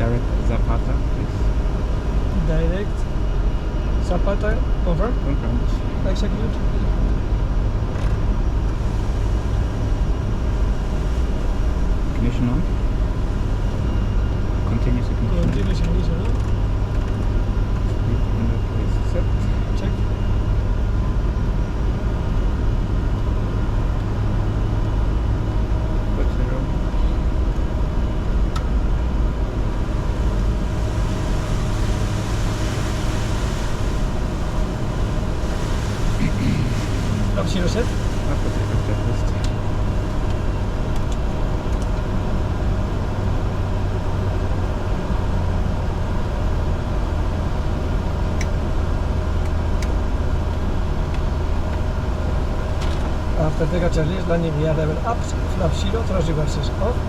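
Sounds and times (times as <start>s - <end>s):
faint steady whine: 0.0s - 57.0s
jet engine and airflow rumble: 0.0s - 57.0s.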